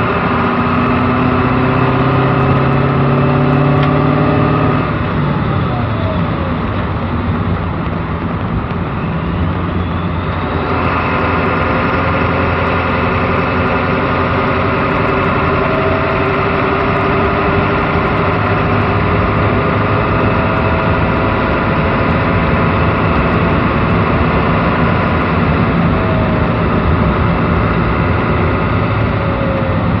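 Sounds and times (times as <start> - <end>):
diesel engine running while driving: 0.0 - 30.0.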